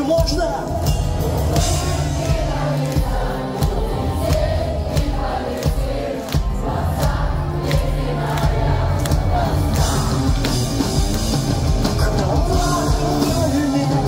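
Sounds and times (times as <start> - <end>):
pop-punk band playing: 0.0 - 14.0
crowd singing along: 0.8 - 14.0.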